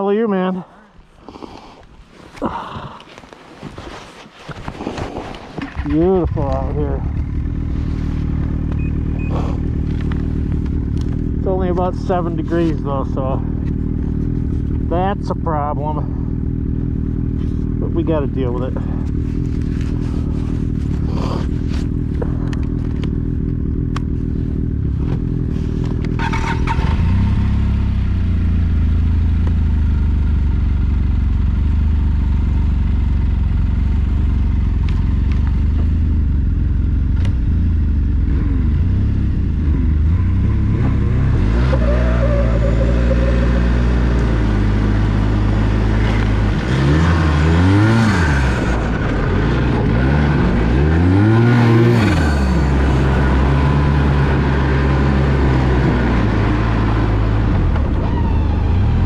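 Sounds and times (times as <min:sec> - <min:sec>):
snowmobile engine: 0:01.2 - 0:30.9, 0:31.6 - 0:59.0.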